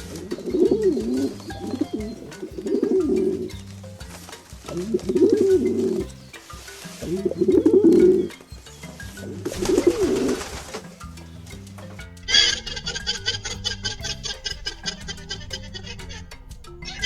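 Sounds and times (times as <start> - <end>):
background music: 0.0 - 17.0
fast rhythmic ticking: 0.0 - 17.0
pigeon cooing: 0.0 - 17.0.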